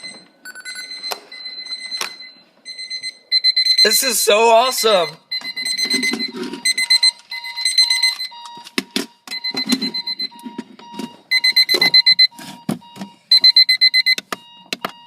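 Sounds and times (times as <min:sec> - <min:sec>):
lower pulsing alarm beep: 0:00.0 - 0:15.0
shrill alarm clock beeps: 0:00.0 - 0:15.0.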